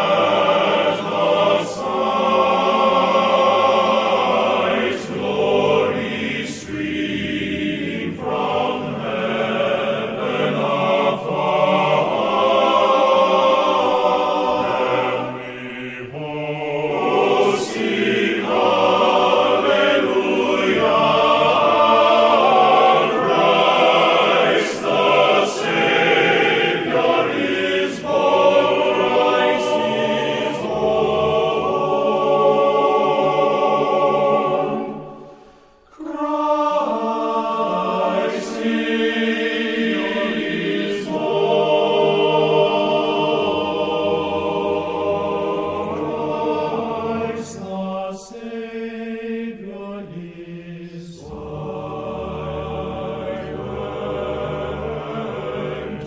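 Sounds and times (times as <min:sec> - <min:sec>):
choir singing slow chords: 0:00.0 - 0:56.0.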